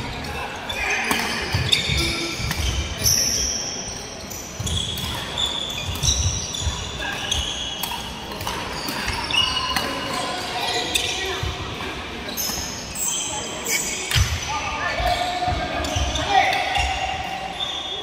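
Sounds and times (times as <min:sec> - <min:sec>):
shoe squeaks: 0:00.2 - 0:11.5, 0:12.3 - 0:18.0.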